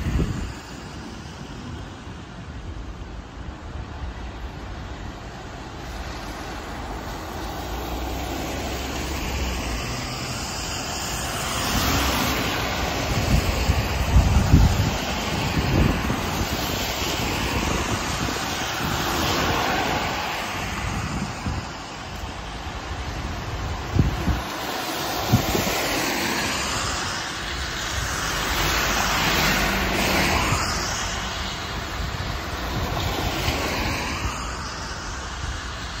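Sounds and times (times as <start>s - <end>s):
minibus passing: 0.0s - 36.0s
traffic noise: 0.0s - 36.0s
tyres hissing on wet asphalt: 0.0s - 36.0s.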